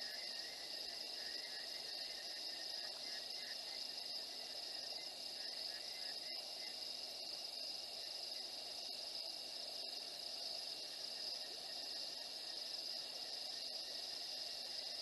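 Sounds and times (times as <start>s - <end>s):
crickets and insects trilling: 0.0s - 15.0s.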